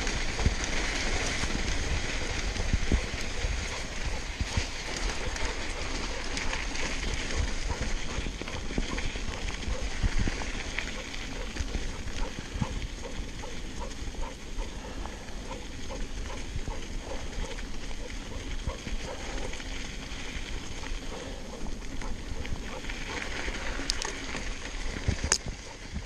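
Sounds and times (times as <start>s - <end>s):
bike knocking and rattling: 0.0s - 26.0s
bike tyres on sand and dirt: 0.0s - 26.0s.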